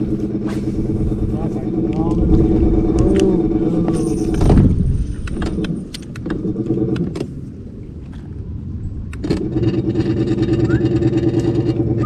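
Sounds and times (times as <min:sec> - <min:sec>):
electric trolling motor humming: 0:00.0 - 0:08.1, 0:09.0 - 0:12.0.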